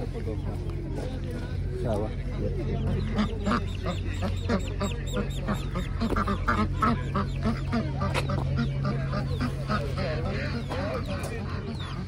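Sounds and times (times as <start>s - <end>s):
people talking: 0.0s - 12.0s
poultry calling: 0.2s - 12.0s.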